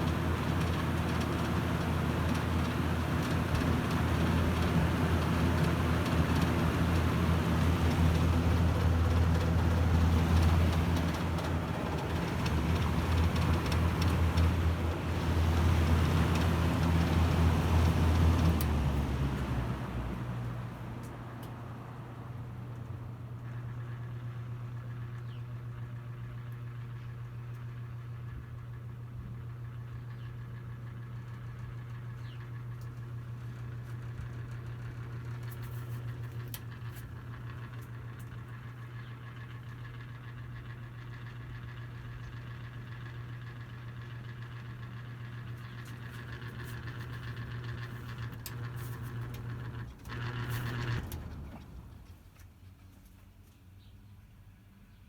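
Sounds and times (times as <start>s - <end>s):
box fan motor hum: 0.0s - 53.4s.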